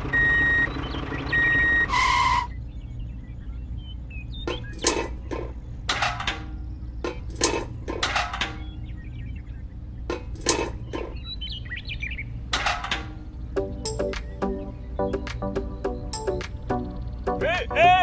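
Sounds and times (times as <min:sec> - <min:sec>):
steady low hum: 0:02.5 - 0:17.4.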